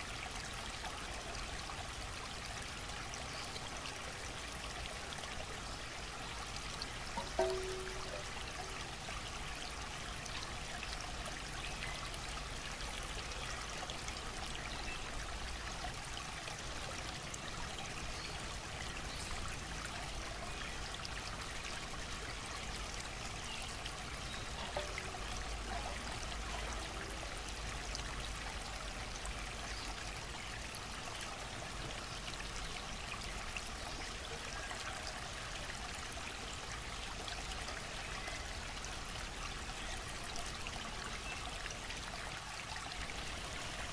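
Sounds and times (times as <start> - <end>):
water trickling and splashing: 0.0 - 43.9.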